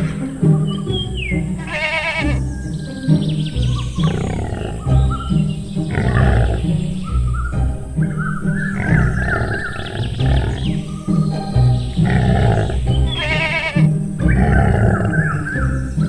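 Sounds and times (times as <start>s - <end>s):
background music with bass: 0.0s - 16.0s.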